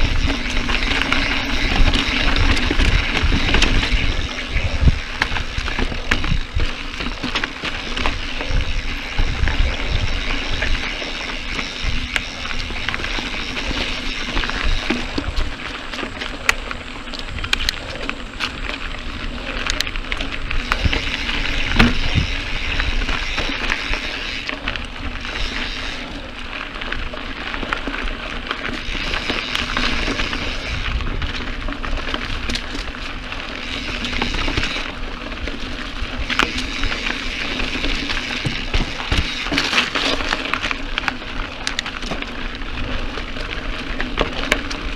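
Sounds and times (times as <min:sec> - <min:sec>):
bike clicks and rattles: 0:00.0 - 0:44.9
tyres crunching over gravel: 0:00.0 - 0:44.9
wind rumble on microphone: 0:00.0 - 0:44.9.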